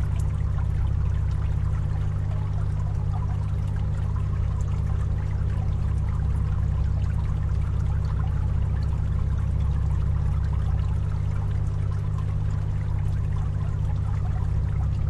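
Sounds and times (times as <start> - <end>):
fan motor hum: 0.0 - 15.0
water trickling and splashing: 0.0 - 15.0.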